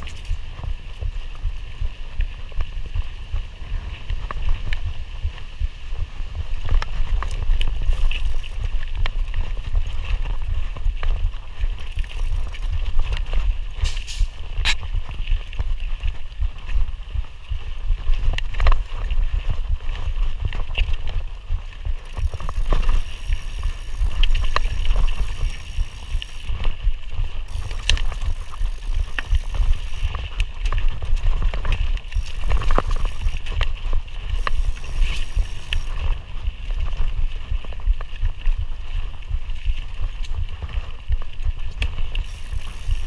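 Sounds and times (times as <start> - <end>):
bike clicks and rattles: 0.0 - 43.0
wind and vibration rumble: 0.0 - 43.0.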